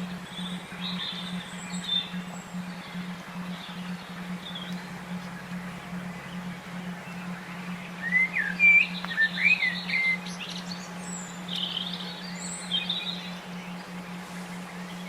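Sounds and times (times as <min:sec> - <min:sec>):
songbirds calling: 0:00.0 - 0:15.0
steady low hum: 0:00.0 - 0:15.0.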